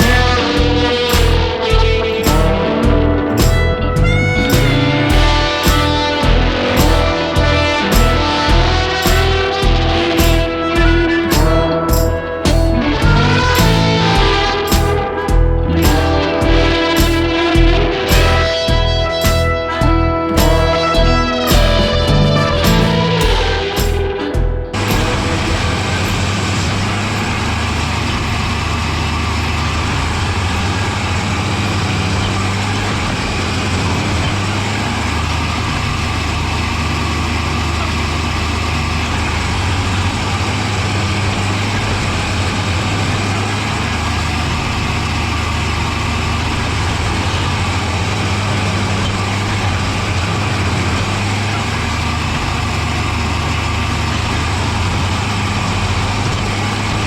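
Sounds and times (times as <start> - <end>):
machine engine low drone: 0.0 - 57.0.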